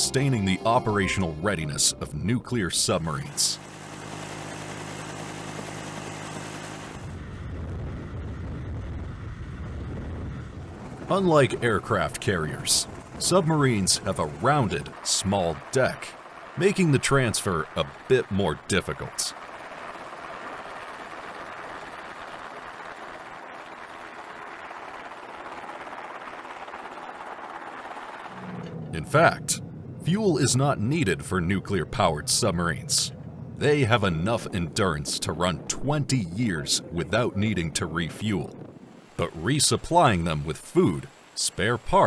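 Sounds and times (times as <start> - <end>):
helicopter rotor and engine: 0.0 - 42.0.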